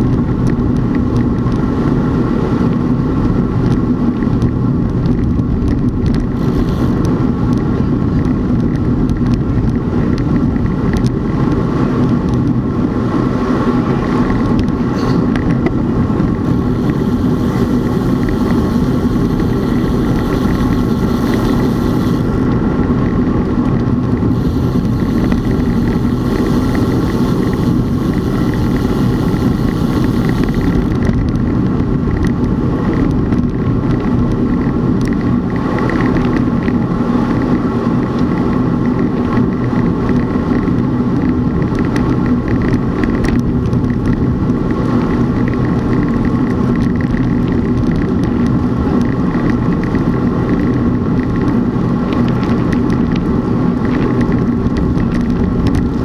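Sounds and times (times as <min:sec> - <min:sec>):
vehicle drone: 0:00.0 - 0:56.0
wind noise: 0:00.0 - 0:56.0.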